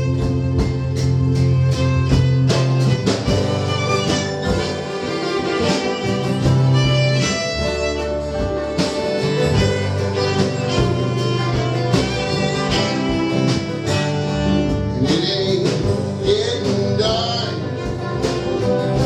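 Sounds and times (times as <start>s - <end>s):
fiddle melody: 0.0s - 19.0s
strummed guitar: 0.0s - 19.0s.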